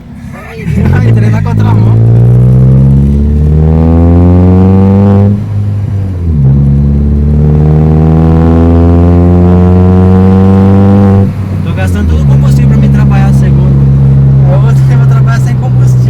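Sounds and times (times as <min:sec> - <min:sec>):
unmuffled car engine accelerating: 0:00.0 - 0:16.0.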